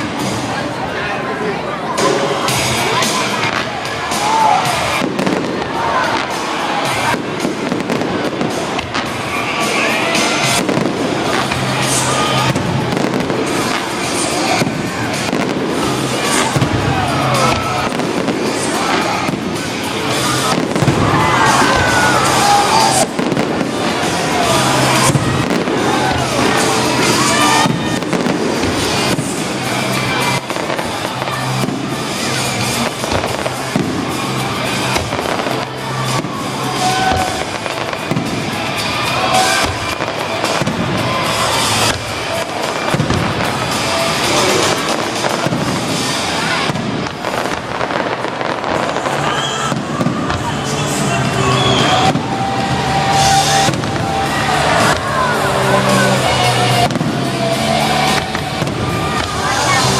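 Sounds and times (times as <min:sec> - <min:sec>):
fireworks bangs and crackling: 0:00.0 - 0:01.0, 0:01.9 - 0:59.9
music playing: 0:00.0 - 0:59.9.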